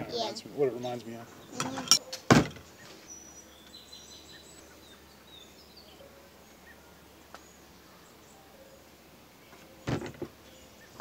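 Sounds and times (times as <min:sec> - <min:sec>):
faint bird chirps: 0:01.2 - 0:11.0.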